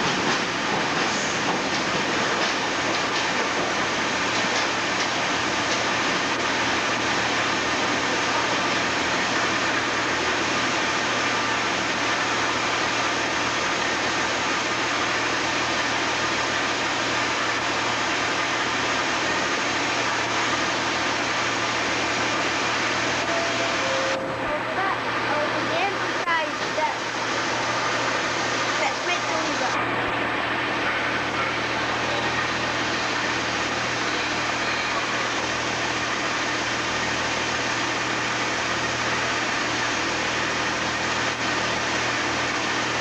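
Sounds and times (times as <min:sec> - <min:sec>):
train rushing noise with hum: 0:00.0 - 0:43.0.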